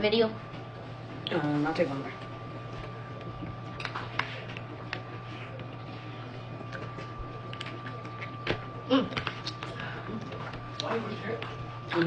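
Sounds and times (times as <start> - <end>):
low electrical hum: 0.0 - 12.0
soft chewing: 2.1 - 12.0.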